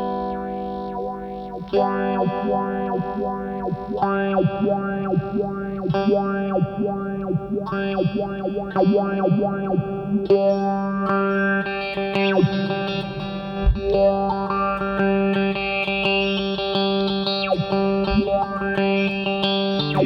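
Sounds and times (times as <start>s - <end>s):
electric guitar chords with phaser: 0.0s - 20.0s.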